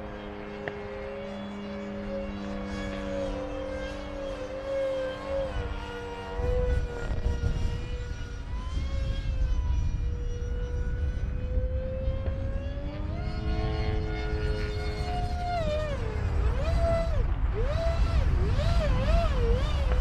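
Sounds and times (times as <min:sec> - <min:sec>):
electric ducted fans whining: 0:00.0 - 0:20.0.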